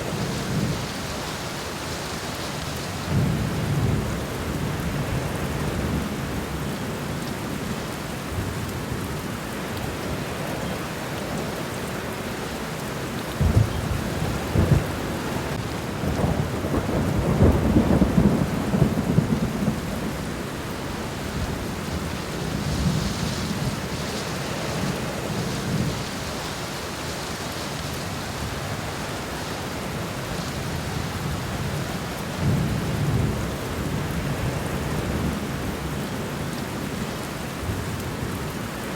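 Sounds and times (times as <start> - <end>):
rain falling on ground: 0.0 - 38.9.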